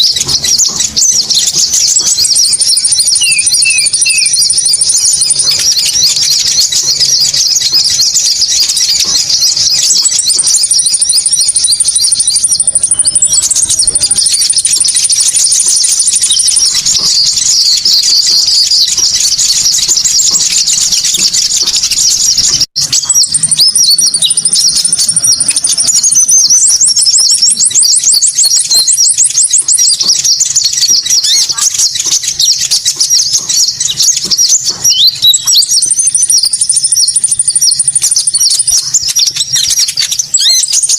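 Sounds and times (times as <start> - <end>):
bird chirps and trills: 0.0 - 40.9.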